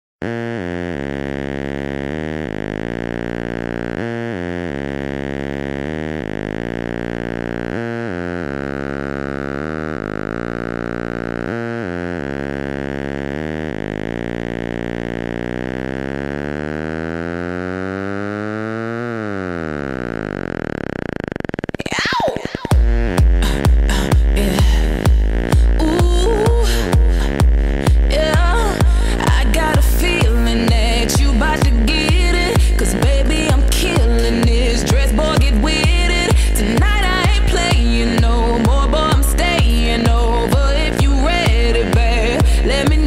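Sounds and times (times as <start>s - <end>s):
synthesizer chords: 0.2s - 43.0s.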